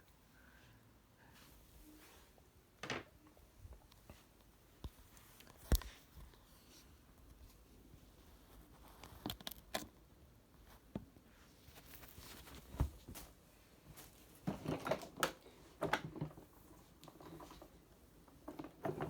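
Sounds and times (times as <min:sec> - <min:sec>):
faint clicks and knocks of handling: 0:02.4 - 0:19.0.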